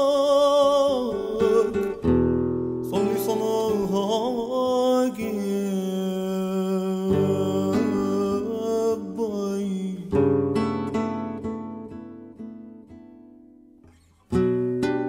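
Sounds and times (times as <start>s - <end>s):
acoustic guitar: 0.0s - 15.0s.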